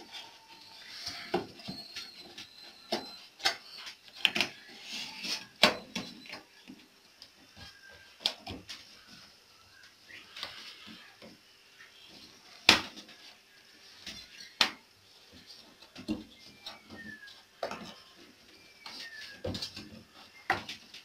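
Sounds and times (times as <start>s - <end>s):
rubbing and handling noise: 0.0s - 21.0s.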